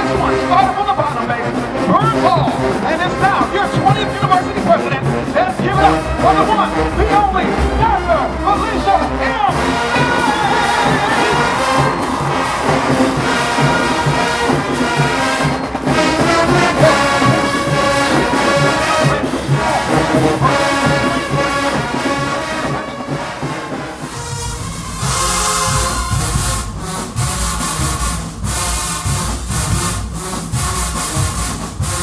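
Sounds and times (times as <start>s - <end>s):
marching band playing: 0.0s - 32.0s.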